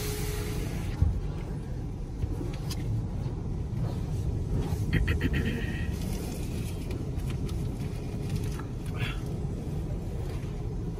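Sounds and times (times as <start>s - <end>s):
car wash rumble: 0.0s - 10.9s.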